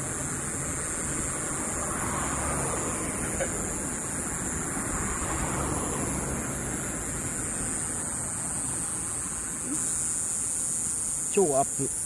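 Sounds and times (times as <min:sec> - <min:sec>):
hiss: 0:00.0 - 0:12.0.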